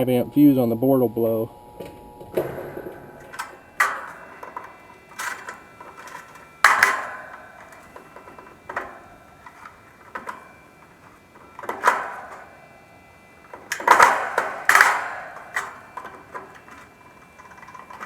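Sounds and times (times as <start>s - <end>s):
metallic clanks on sheet metal: 2.3s - 18.0s.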